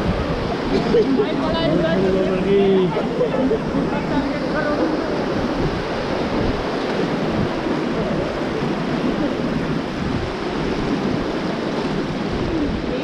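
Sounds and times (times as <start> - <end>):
river whitewater rushing: 0.0 - 13.0.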